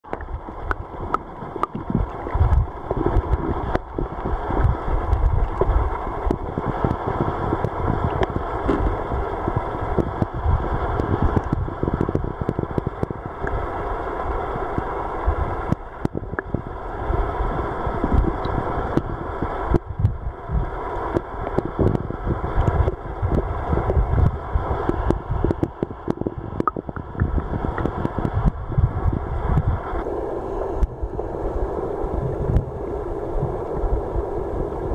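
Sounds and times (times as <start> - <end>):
muffled underwater river rushing: 0.0 - 34.9.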